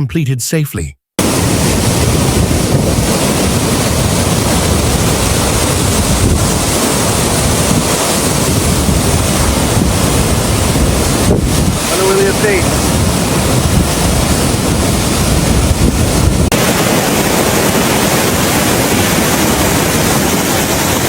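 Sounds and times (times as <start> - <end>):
rushing water: 1.2 - 21.0
wind buffeting microphone: 1.2 - 21.0.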